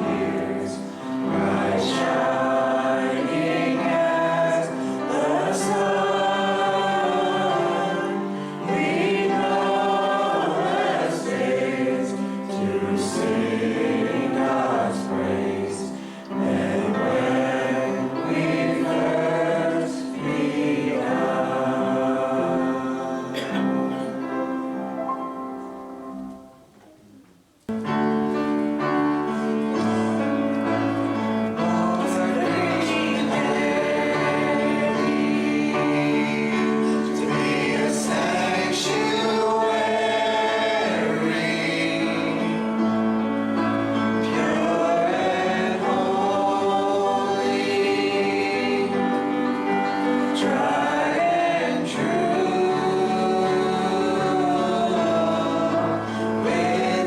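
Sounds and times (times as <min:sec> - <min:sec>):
gospel choir singing with instruments: 0:00.0 - 0:26.7, 0:27.7 - 0:57.0.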